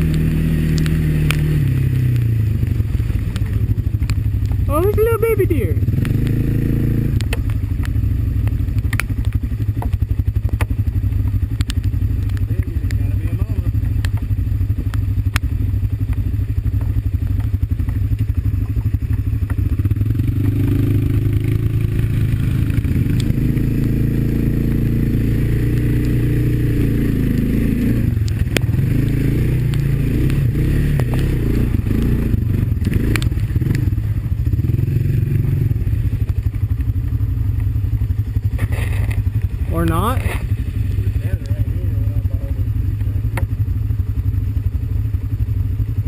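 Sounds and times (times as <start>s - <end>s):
quad bike engine running: 0.0s - 46.0s.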